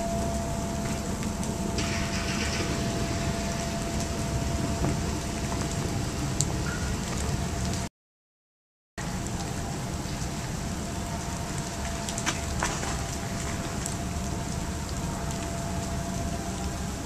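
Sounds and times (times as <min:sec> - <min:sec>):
low thunder rumble: 0:00.0 - 0:07.9, 0:09.0 - 0:17.0
rain falling: 0:00.0 - 0:07.9, 0:09.0 - 0:17.0.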